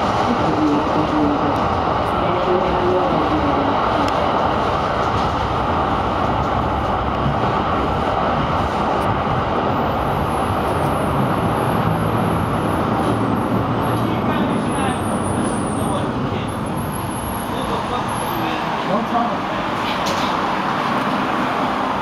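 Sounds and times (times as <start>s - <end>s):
tram wheels rumbling on rail: 0.0s - 22.0s.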